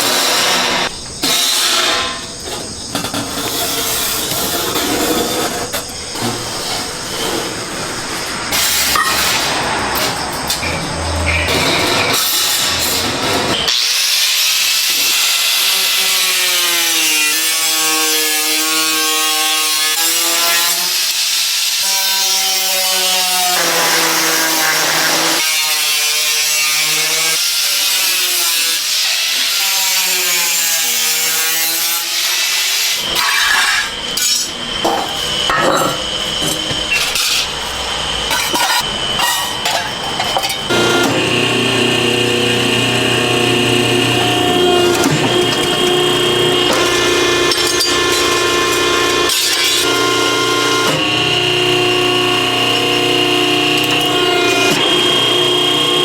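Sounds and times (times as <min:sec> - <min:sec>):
power tool grinding whine: 0:00.0 - 0:56.0.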